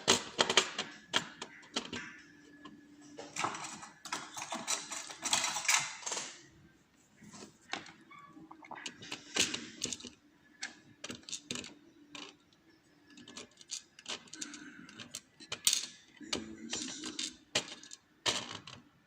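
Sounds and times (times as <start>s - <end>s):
lock pins clicking and rattling: 0.0s - 6.5s, 7.7s - 19.0s.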